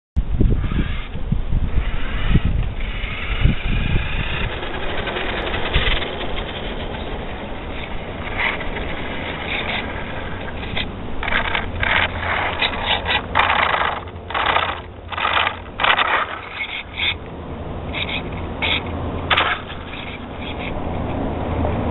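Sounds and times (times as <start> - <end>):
low rumbles and thumps: 0.2 - 21.9
tyre noise on asphalt: 0.2 - 21.9.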